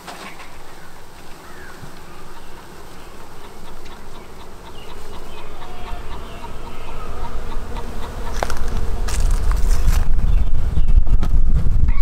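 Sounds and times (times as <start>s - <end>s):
bee swarm buzzing: 0.0s - 11.8s.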